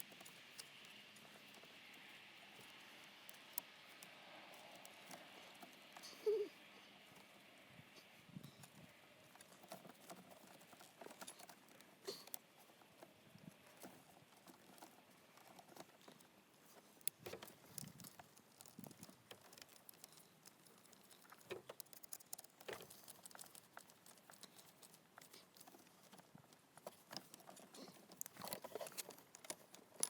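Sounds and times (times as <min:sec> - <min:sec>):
hand work clicks and rustles: 0:00.0 - 0:30.0.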